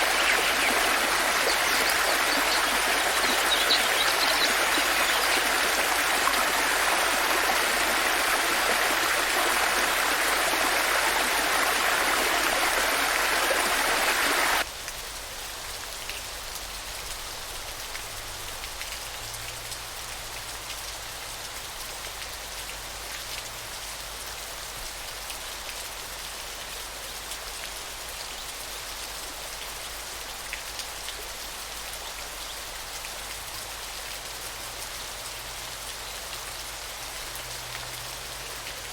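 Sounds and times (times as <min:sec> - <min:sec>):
rush of falling water: 0:00.0 - 0:38.9.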